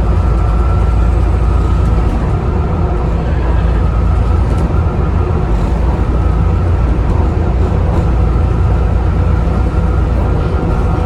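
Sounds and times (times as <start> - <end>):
bus diesel engine drone: 0.0 - 11.0
engine cooling fans whining: 0.0 - 11.0.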